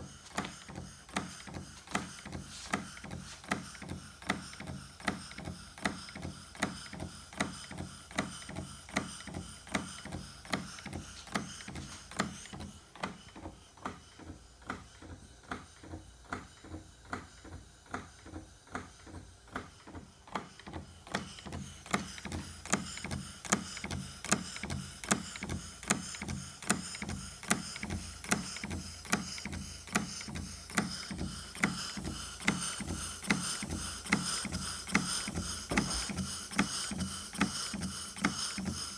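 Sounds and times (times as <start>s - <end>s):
model steam engine clicking: 0.3s - 14.0s, 19.5s - 38.9s.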